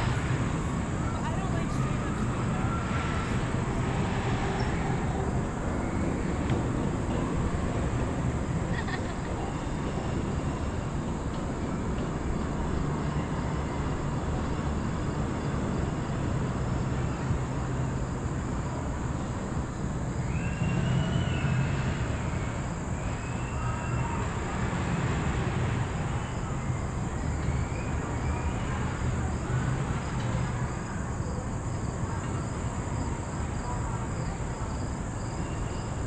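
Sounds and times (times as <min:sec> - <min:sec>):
chairlift rumble and hiss: 0:00.0 - 0:36.0.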